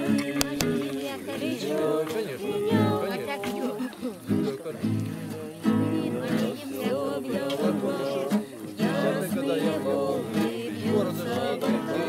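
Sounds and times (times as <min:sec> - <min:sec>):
acoustic guitar: 0:00.0 - 0:12.0
people singing: 0:00.0 - 0:12.0.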